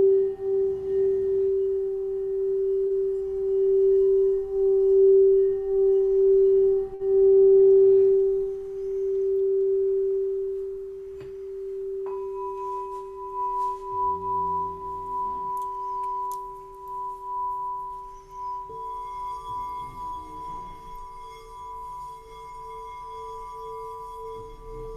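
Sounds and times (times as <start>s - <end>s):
higher singing bowl struck: 0.0s - 24.9s
singing bowl low tone: 0.0s - 24.9s.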